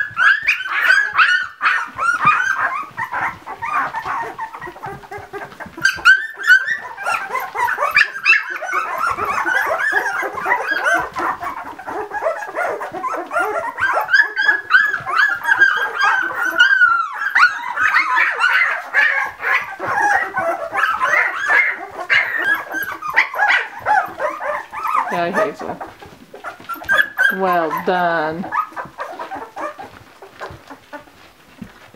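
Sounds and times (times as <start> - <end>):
puppies squeaking and whimpering: 0.0 - 31.9.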